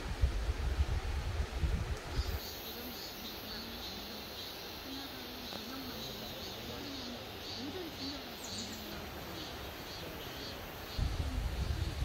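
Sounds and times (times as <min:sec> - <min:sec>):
steady soft forest hiss: 0:00.0 - 0:12.0.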